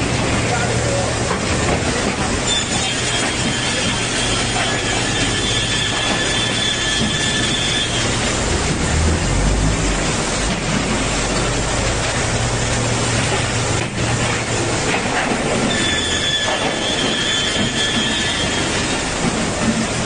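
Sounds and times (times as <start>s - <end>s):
saw cutting machine running: 2.4s - 19.7s.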